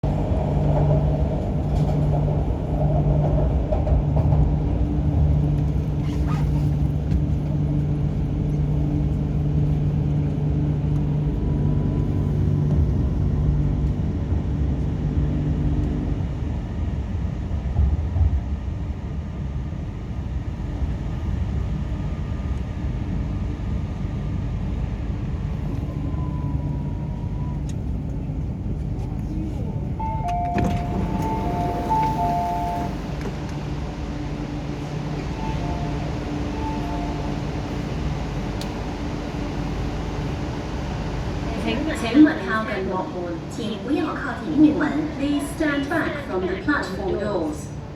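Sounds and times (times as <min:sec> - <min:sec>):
train rumble: 0:00.0 - 0:47.9.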